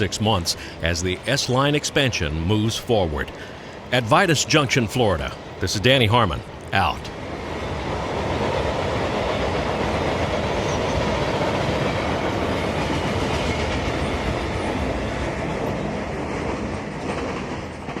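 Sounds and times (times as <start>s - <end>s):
train cars rolling on track: 0.0s - 18.0s.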